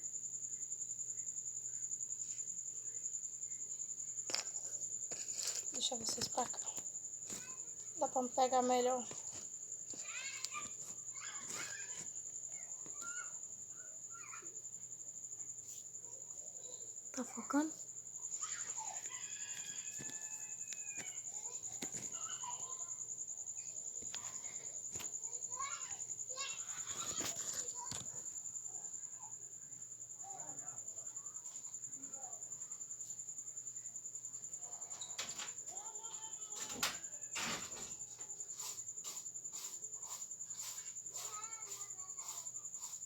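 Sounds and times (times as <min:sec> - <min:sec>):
insect chirring trill: 0:00.0 - 0:43.0.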